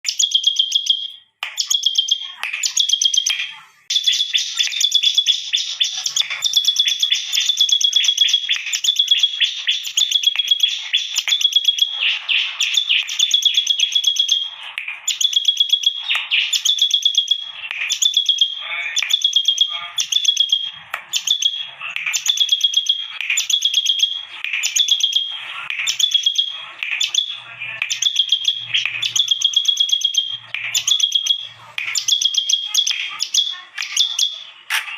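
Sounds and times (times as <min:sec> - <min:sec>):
bird singing rapid chattering notes: 0:00.0 - 0:34.7.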